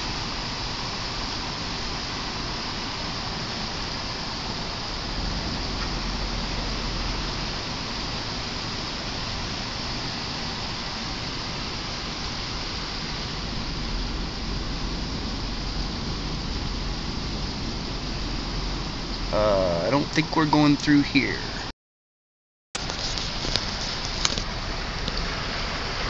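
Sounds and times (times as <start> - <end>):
rain: 0.0 - 21.7, 22.8 - 26.0
vehicle engine and tyre noise: 0.0 - 21.7, 22.8 - 26.0.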